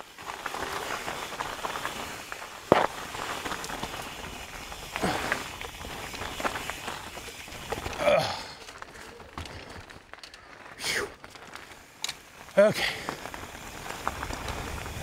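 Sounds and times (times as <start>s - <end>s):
bike rattling and clicking: 0.0s - 15.0s
bike tyres crunching over dirt: 0.0s - 15.0s.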